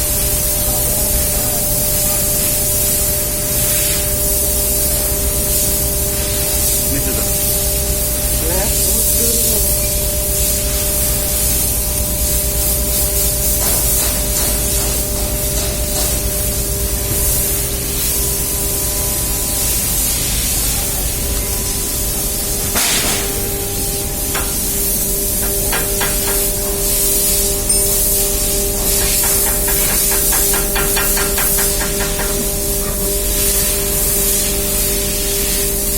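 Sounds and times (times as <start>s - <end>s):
machinery hum with hiss: 0.0s - 35.9s.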